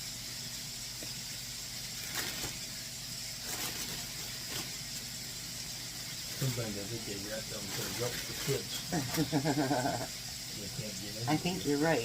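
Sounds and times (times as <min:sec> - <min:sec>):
oil sizzling in deep fryer: 0:00.0 - 0:12.0
sharp oil crackles: 0:00.3 - 0:11.7.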